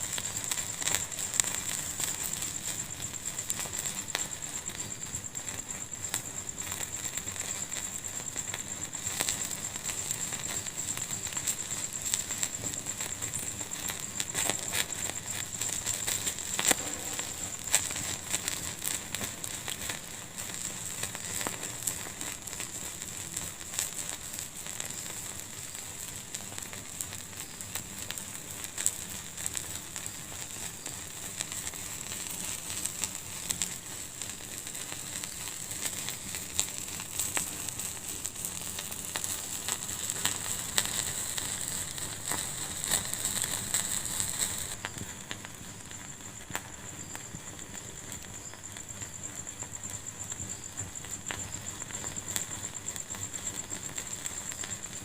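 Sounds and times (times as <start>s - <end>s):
fire crackling and popping: 0.0s - 55.0s
steady hiss: 0.0s - 55.0s.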